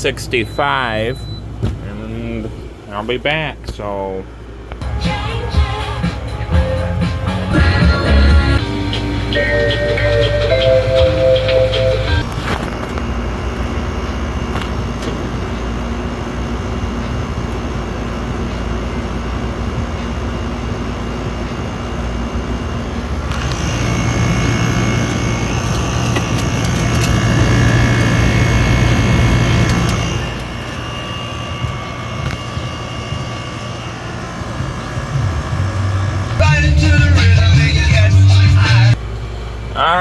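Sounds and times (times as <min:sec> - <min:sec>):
low hum: 0:00.0 - 0:39.8
air conditioners running: 0:00.0 - 0:40.0
thin whine: 0:07.5 - 0:40.0.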